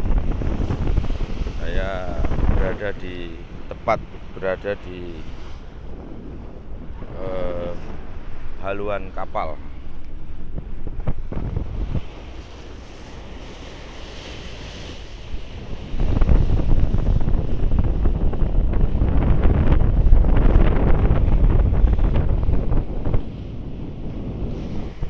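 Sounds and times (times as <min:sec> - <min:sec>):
seawater rushing and splashing: 0:00.0 - 0:25.0
wind buffeting microphone: 0:00.0 - 0:25.0.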